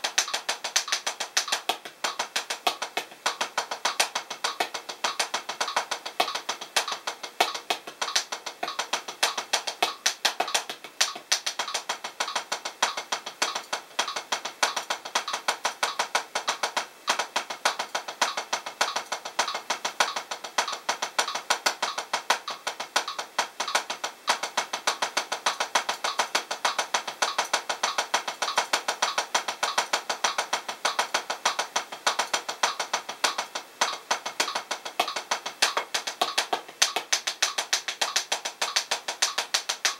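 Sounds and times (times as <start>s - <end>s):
drumstick taps on practice pad: 0.0s - 39.9s.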